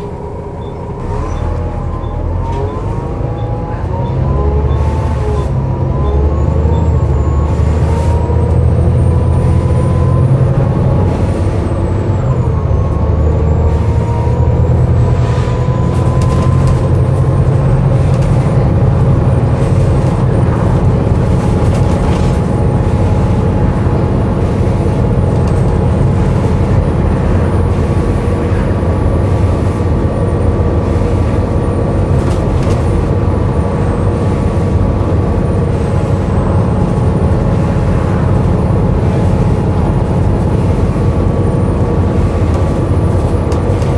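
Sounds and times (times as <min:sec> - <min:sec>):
bus engine running: 0:00.0 - 0:43.9
drawn-out groaning tone: 0:00.0 - 0:43.9.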